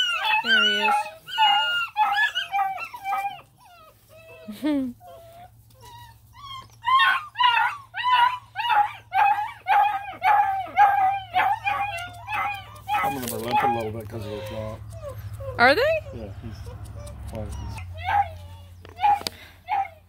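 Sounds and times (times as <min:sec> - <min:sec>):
puppy whining and yelping: 0:00.0 - 0:20.0.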